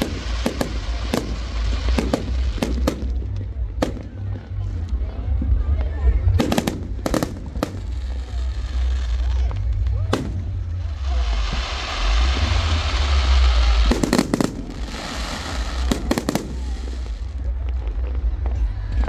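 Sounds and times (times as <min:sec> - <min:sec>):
crackling hiss of fireworks: 0:00.0 - 0:19.0
fireworks bursting with bangs: 0:00.0 - 0:19.0.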